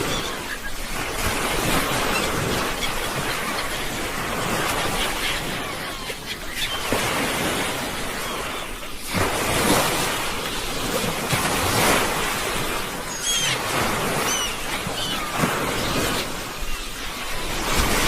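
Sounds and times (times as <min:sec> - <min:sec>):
sea waves breaking: 0:00.0 - 0:18.0.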